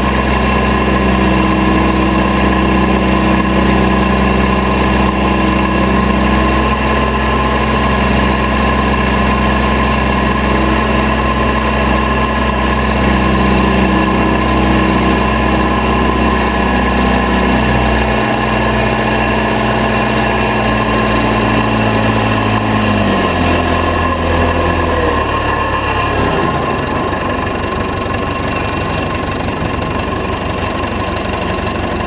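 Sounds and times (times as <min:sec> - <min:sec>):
backhoe engine running: 0:00.0 - 0:32.0.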